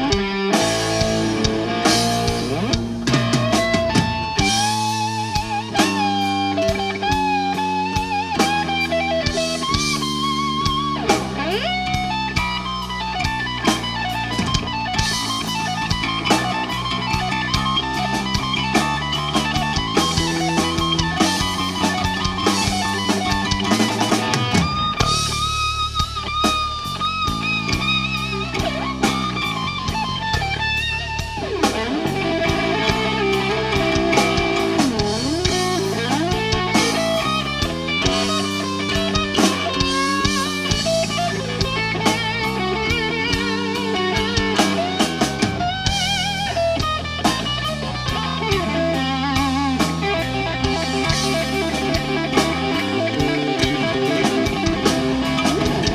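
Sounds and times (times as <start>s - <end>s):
bass guitar: 0.0s - 55.9s
drum kit: 0.0s - 55.9s
electric guitar solo: 0.0s - 55.9s.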